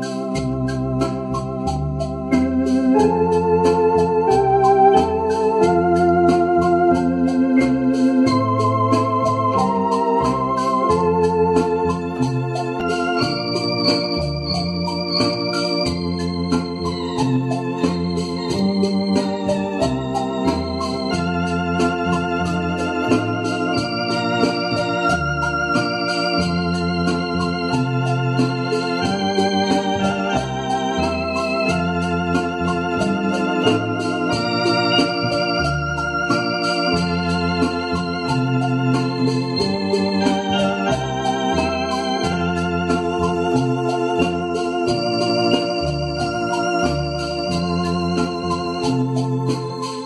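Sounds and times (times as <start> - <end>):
electronic organ playing a hymn: 0.0 - 50.0.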